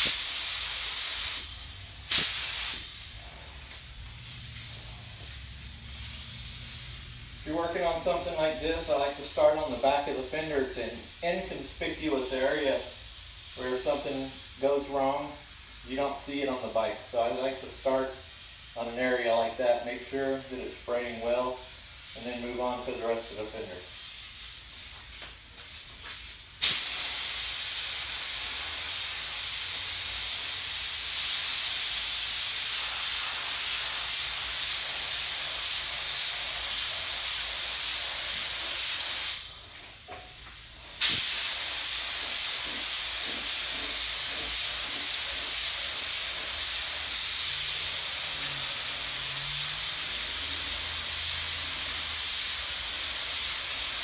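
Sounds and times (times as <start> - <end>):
spray gun hissing: 0.0 - 54.0.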